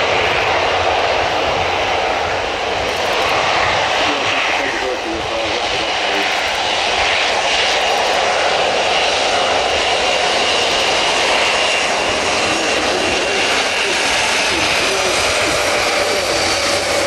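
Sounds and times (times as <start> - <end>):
high whine: 0.0 - 17.0
turboprop engines running: 0.0 - 17.0.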